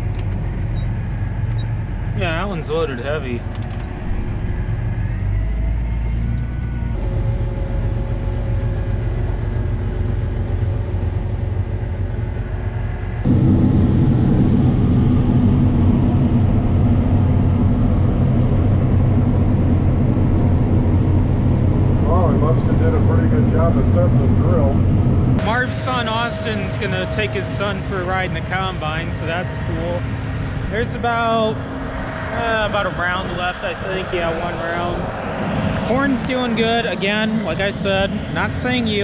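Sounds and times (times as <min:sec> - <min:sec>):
tractor engine hum from cab: 0:00.0 - 0:13.4, 0:14.7 - 0:39.0
combine harvester running: 0:00.0 - 0:39.0.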